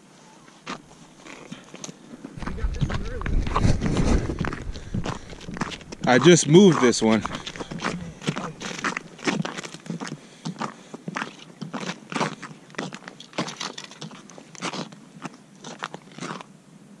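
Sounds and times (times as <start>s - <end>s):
boots crunching on icy snow: 0.7s - 16.5s.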